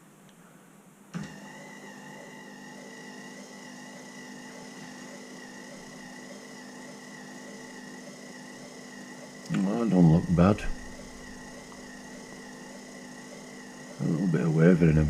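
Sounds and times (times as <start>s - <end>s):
electric motor whining: 1.2s - 15.0s.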